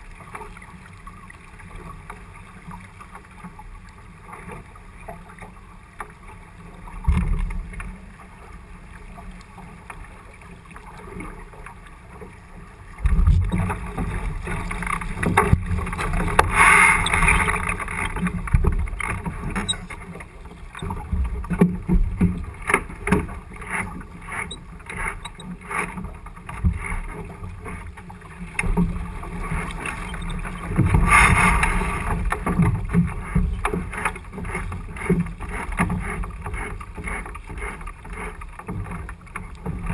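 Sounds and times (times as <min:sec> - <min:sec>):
wind and water rushing: 0:00.0 - 0:39.9.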